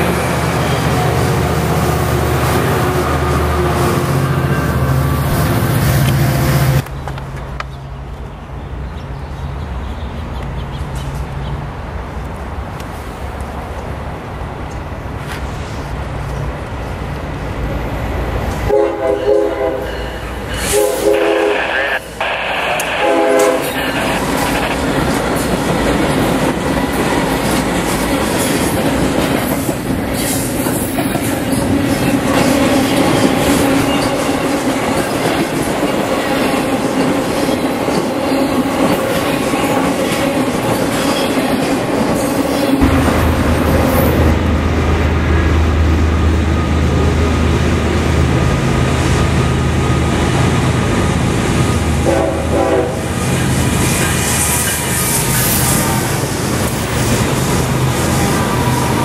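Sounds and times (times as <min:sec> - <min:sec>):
diesel locomotive drone: 0:00.0 - 0:59.0
freight train rolling past: 0:00.0 - 0:59.0.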